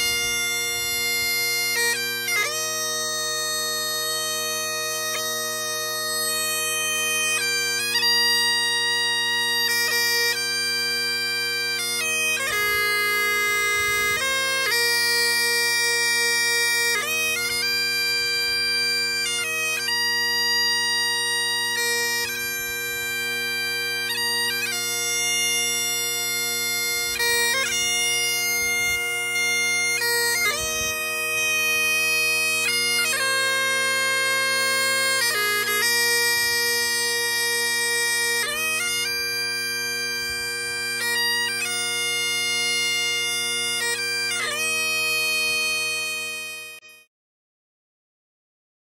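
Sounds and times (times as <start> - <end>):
bagpipes playing slow melody: 0.0 - 47.1.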